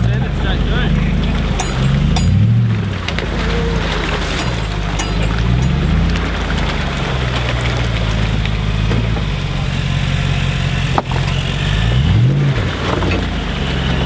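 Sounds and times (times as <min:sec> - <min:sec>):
engine running and revving: 0:00.0 - 0:14.0.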